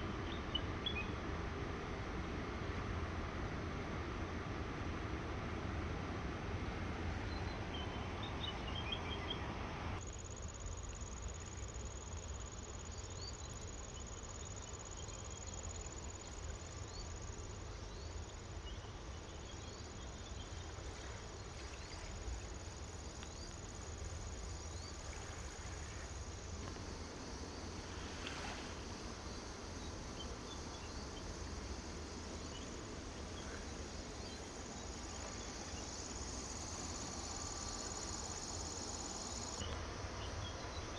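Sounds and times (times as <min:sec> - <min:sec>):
insects chirping: 0:07.2 - 0:40.9.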